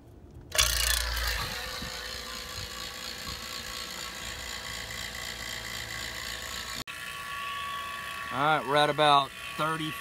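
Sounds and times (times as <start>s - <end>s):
vacuum pump motor humming: 0.5s - 10.0s.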